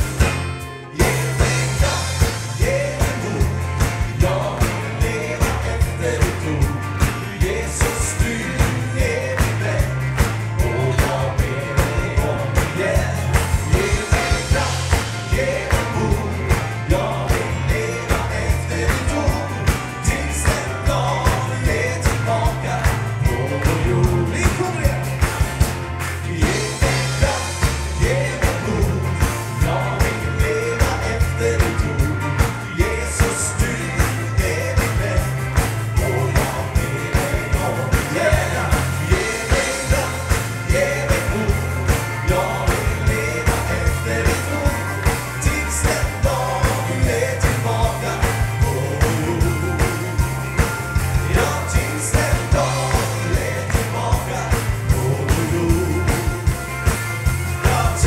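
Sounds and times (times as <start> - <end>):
up-tempo band song with singing: 0.0 - 58.0.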